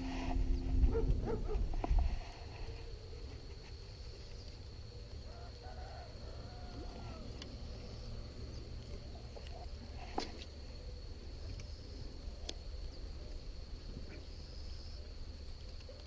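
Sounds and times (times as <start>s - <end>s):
steady low rumble: 0.0s - 5.0s, 6.0s - 15.6s
faint gliding bird calls: 0.0s - 16.0s.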